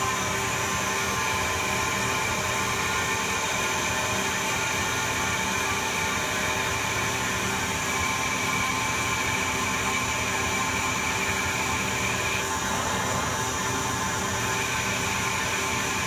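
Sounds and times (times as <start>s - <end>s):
lathe machine whirring: 0.0s - 16.0s.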